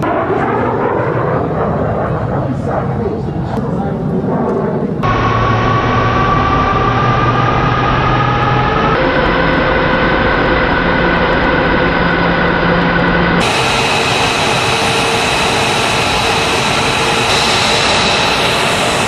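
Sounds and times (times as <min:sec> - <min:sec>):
jet engine running: 0:00.0 - 0:19.0.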